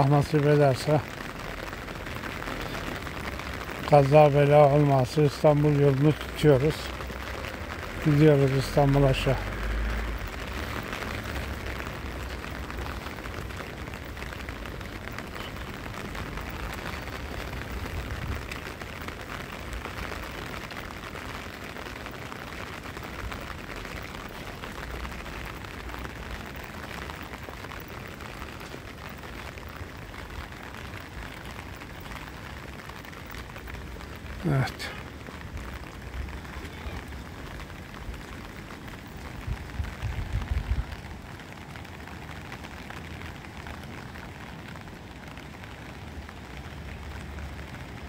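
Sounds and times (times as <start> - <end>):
rain on pavement: 0.0 - 48.0.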